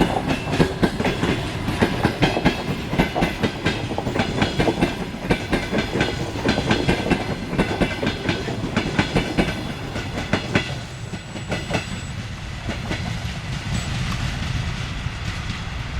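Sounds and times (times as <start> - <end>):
train rumble: 0.0 - 15.9
train wheels clicking on rails: 0.0 - 15.9.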